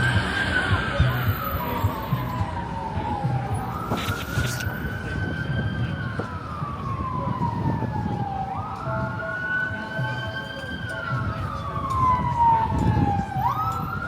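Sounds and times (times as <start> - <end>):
city street noise: 0.0 - 14.0
emergency siren wailing: 0.0 - 14.0.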